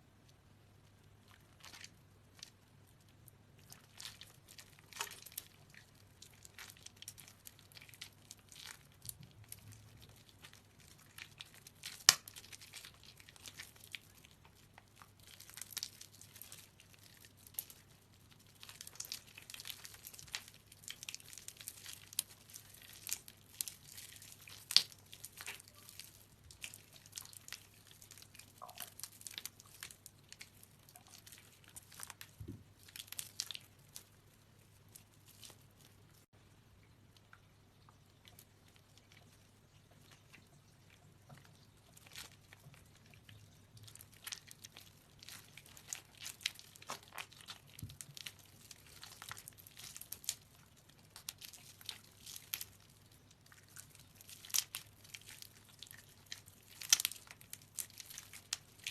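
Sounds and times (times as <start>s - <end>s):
wet soap squishing and crackling: 0.0s - 58.9s.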